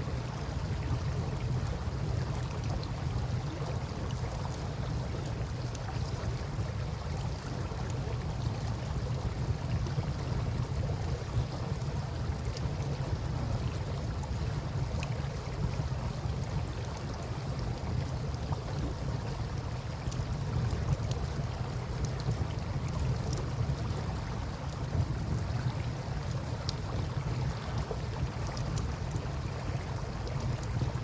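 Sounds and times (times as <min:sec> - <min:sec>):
river water: 0:00.0 - 0:31.0
campfire crackling and popping: 0:00.7 - 0:31.0.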